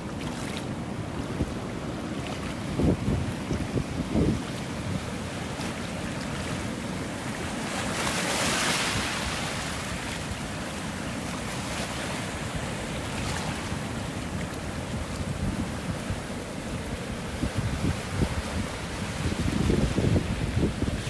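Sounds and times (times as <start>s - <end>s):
sea waves breaking: 0.0s - 21.0s
wind rumbling on microphone: 1.2s - 10.6s, 11.5s - 21.0s.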